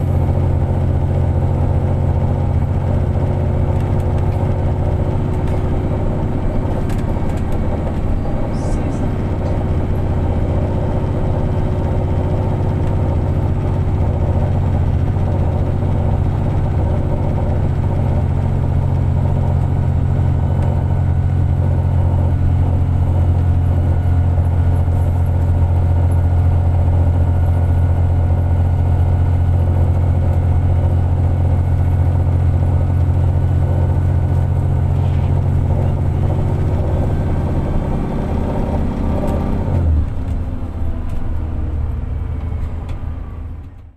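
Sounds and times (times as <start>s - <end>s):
bus engine droning: 0.0s - 43.9s.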